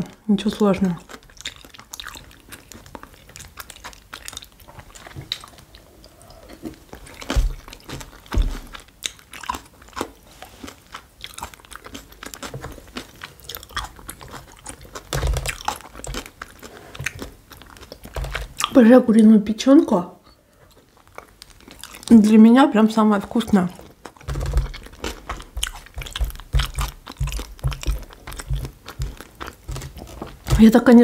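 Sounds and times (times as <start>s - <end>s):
chewing and crunching food: 0.0s - 18.9s, 20.2s - 31.0s.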